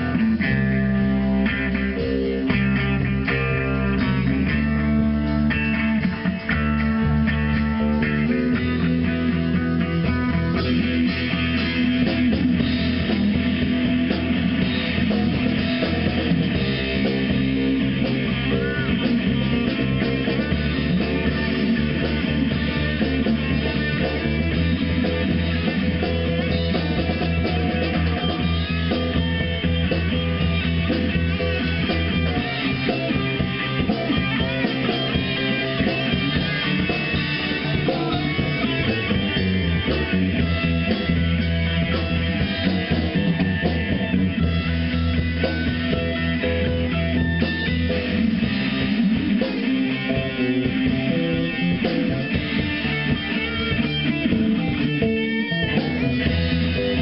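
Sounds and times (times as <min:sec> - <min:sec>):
drum kit: 0:00.0 - 0:57.0
electric guitars: 0:00.0 - 0:57.0.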